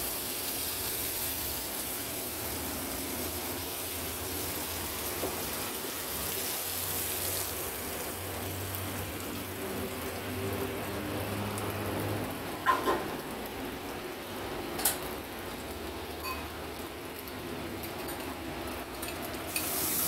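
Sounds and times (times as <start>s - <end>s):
steady hissing kitchen noise: 0.0s - 20.0s.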